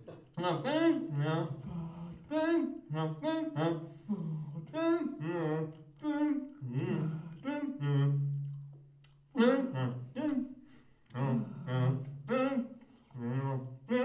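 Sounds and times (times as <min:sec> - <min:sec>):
voices singing wordless syllables: 0:00.0 - 0:14.0.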